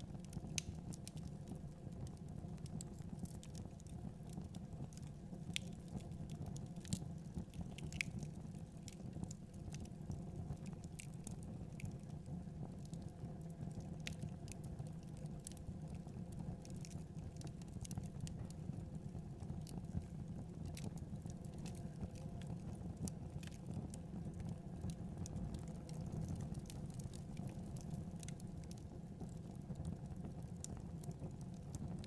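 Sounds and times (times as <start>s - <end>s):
low rumble of flames: 0.0s - 32.0s
fire snapping and popping: 0.1s - 32.0s.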